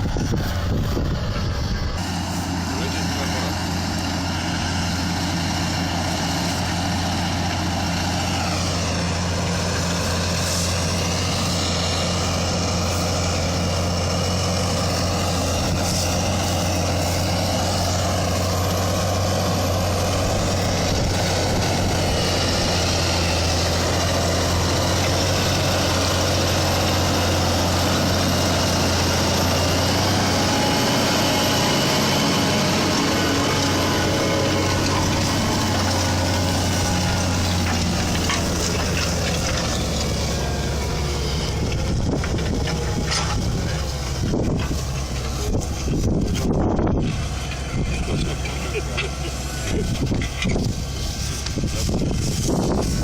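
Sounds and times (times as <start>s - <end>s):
tractor diesel engine: 0.0s - 53.0s.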